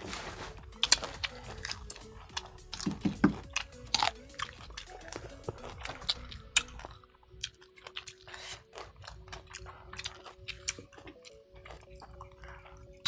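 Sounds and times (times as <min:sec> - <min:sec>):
fruit crunching while chewed: 0:00.0 - 0:13.0.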